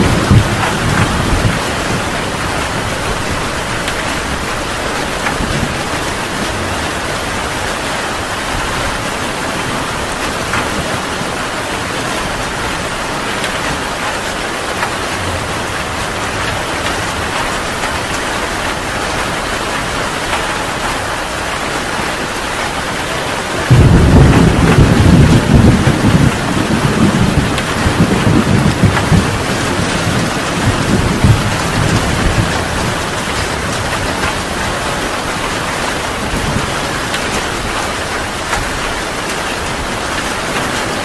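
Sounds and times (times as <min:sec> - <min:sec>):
thunder rumble: 0:00.0 - 0:20.9, 0:23.4 - 0:41.0
heavy rain: 0:00.0 - 0:41.0.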